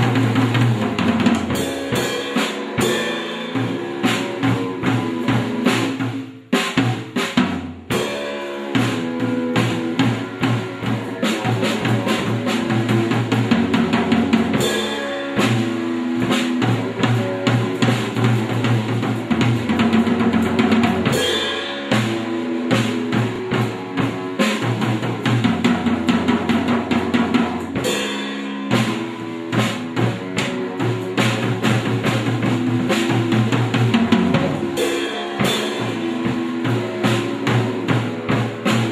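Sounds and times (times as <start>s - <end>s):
drum kit beat: 0.0s - 38.9s
instrumental band music: 0.0s - 38.9s.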